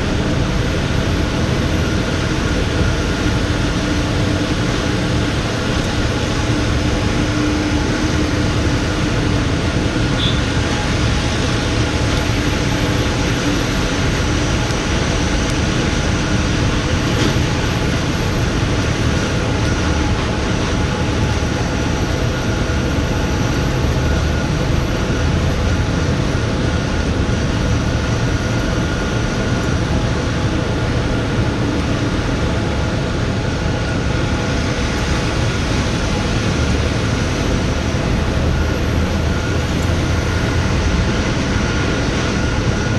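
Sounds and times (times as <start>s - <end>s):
truck engine drone: 0.0s - 42.9s.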